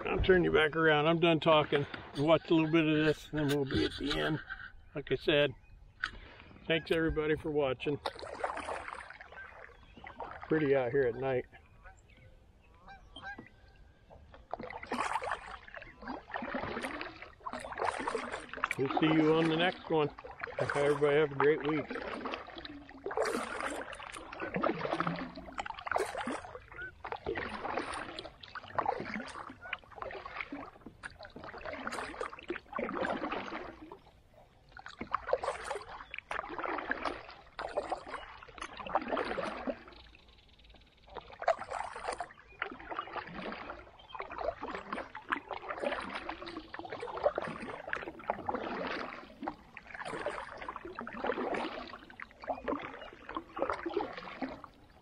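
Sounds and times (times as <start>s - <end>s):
paddle splashing through water: 0.0s - 55.0s.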